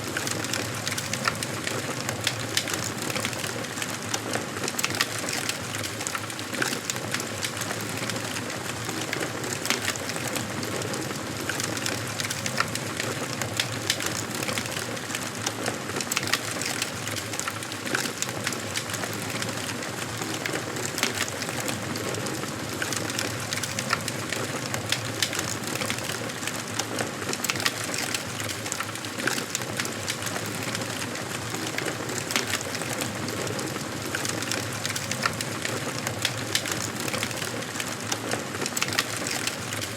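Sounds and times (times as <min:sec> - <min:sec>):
burning logs crackling and popping: 0:00.0 - 0:39.9.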